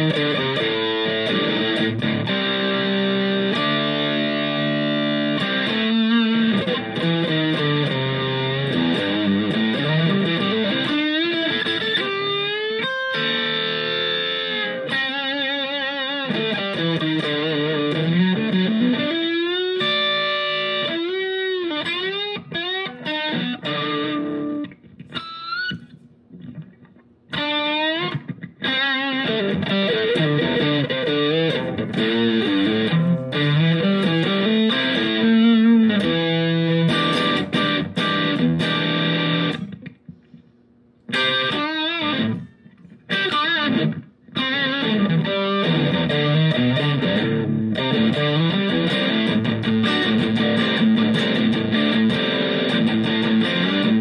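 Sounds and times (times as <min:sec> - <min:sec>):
distorted electric guitar lead: 0:00.0 - 0:40.3, 0:41.1 - 0:54.0.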